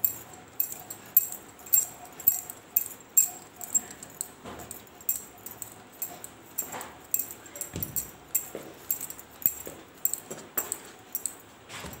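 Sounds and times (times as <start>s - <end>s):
bangles clinking and jingling: 0.0s - 12.0s.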